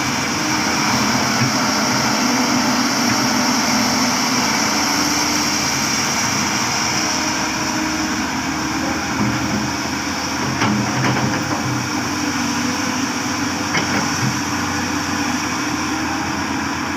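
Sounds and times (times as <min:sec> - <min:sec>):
diesel engine hum with whine: 0:00.0 - 0:16.9.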